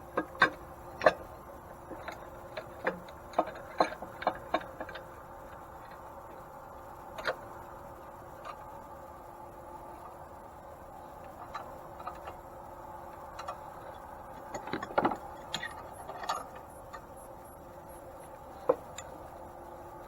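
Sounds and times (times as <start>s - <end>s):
clicks and knocks of mill parts: 0.0s - 8.9s, 11.0s - 19.6s.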